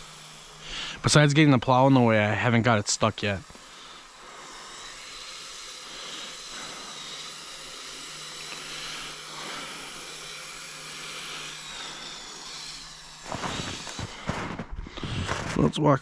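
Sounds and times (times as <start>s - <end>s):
toy vehicle hissing whir: 0.0s - 15.6s
faint high motor whine: 0.0s - 16.0s.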